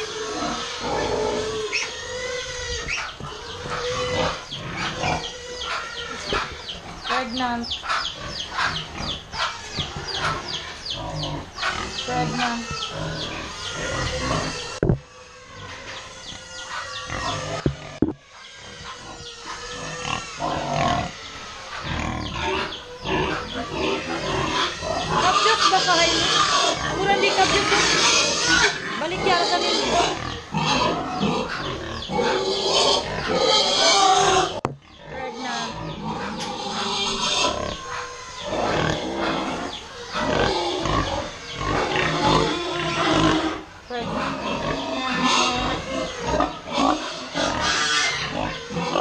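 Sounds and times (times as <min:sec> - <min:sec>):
pigs grunting and calling: 0:00.0 - 0:49.0.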